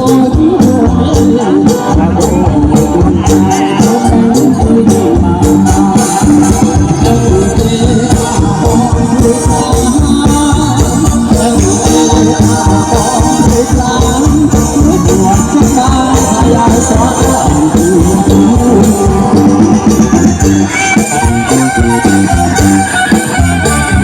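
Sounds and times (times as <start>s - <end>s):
person singing: 0.0s - 24.0s.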